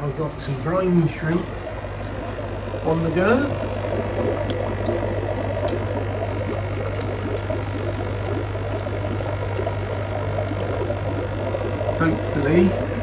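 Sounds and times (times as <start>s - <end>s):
aquarium water bubbling: 0.0s - 13.0s
low pump hum: 0.0s - 13.0s.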